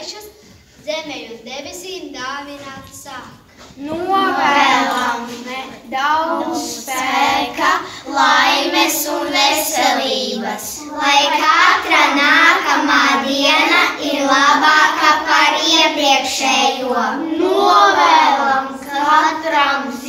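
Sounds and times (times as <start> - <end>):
children singing: 3.8 - 20.0.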